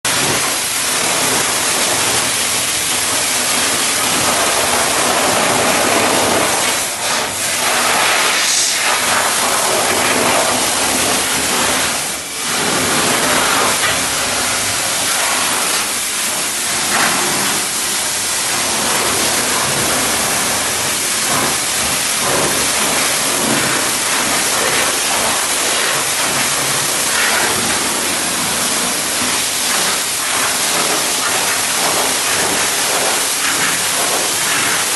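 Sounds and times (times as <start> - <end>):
high-pressure water spraying: 0.1 - 34.9.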